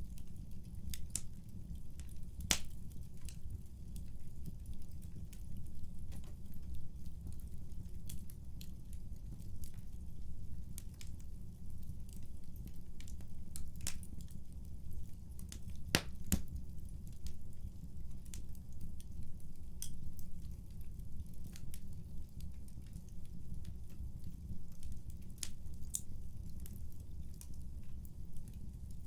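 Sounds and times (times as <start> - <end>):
fire crackles and pops: 0.0 - 29.0.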